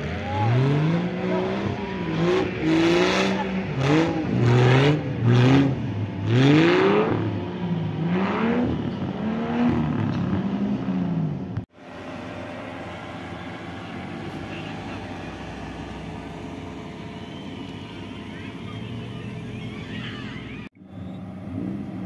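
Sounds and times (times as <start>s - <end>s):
buggy engine revving hard: 0.0s - 22.0s.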